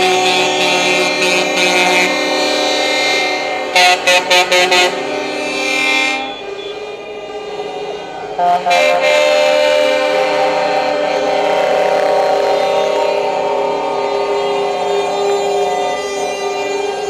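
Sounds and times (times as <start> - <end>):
truck air horn blasts: 0.0 - 7.0, 8.4 - 16.7.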